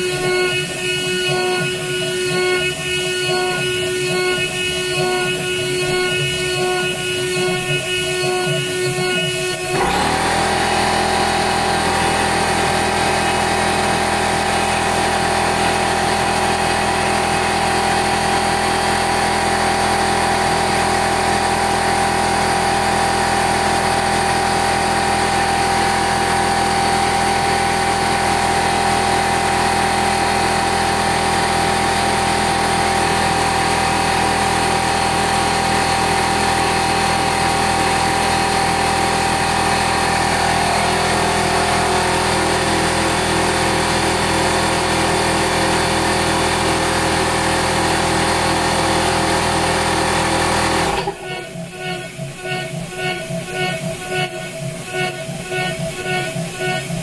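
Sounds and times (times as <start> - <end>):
router spindle machining whine: 0.0 - 57.0.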